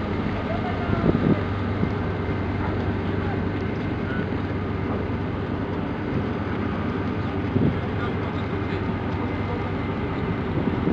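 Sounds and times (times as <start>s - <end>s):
boat engines humming: 0.0s - 10.9s.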